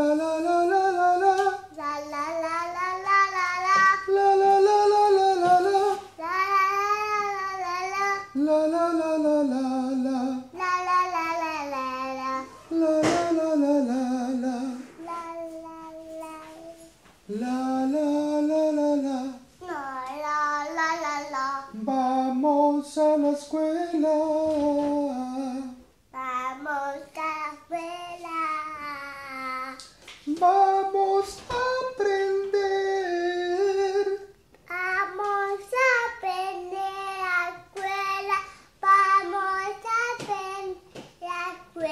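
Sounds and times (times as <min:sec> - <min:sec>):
small girl singing: 0:00.0 - 0:17.0, 0:18.2 - 0:25.2, 0:26.0 - 0:41.9.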